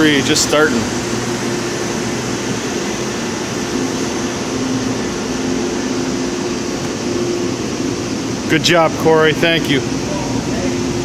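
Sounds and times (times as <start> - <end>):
machinery whirring: 0.0 - 11.0.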